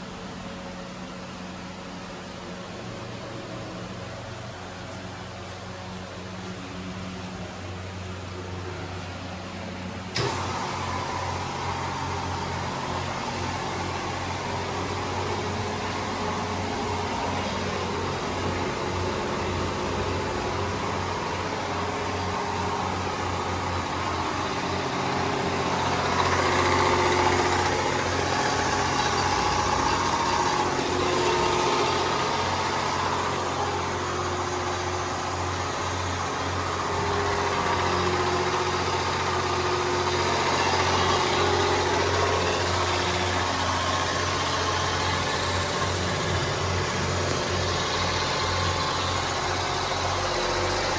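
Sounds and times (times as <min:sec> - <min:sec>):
low mechanical drone: 0:00.0 - 0:50.9.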